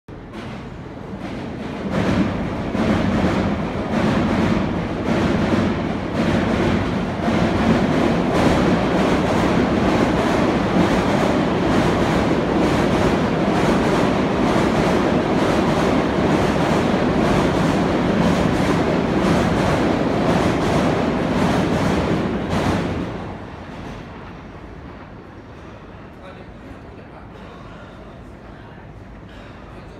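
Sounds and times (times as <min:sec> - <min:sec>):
electric trains passing: 0:00.1 - 0:26.1.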